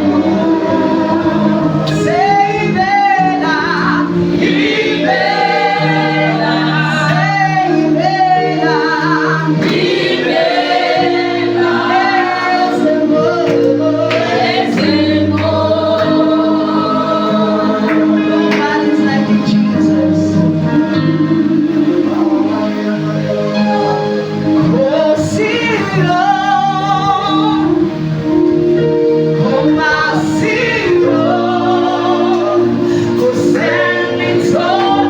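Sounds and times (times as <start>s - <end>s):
group singing gospel song: 0.0s - 23.2s, 23.8s - 35.0s.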